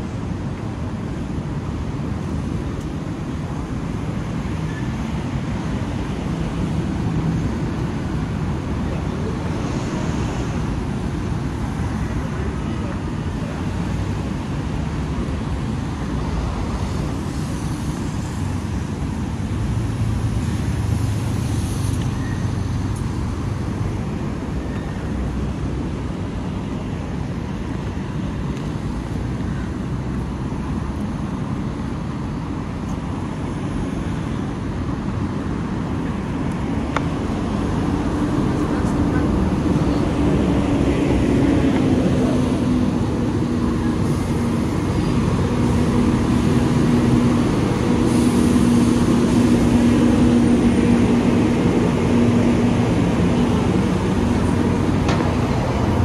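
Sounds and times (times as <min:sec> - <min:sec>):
road traffic rumble: 0:00.0 - 0:56.0
cars driving past: 0:01.7 - 0:56.0.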